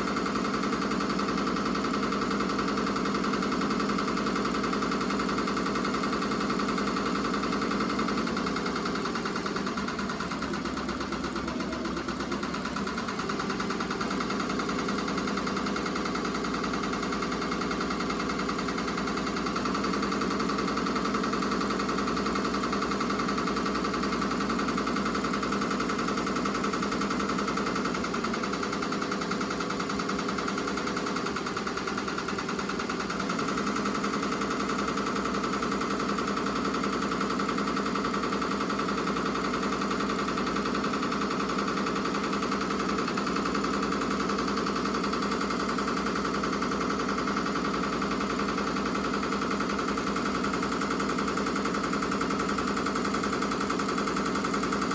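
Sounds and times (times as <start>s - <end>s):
embroidery machine stitching rattle: 0.0s - 54.9s.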